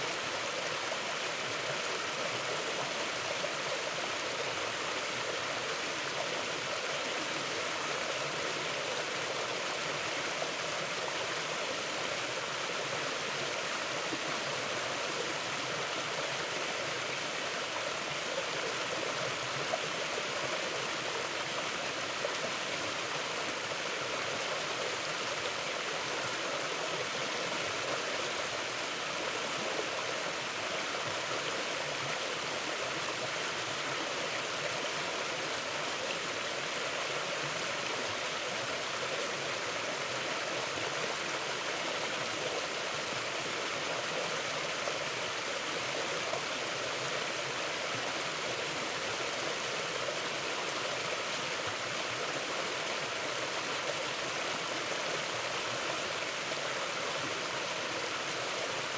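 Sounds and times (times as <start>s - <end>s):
river flowing: 0.0s - 58.9s.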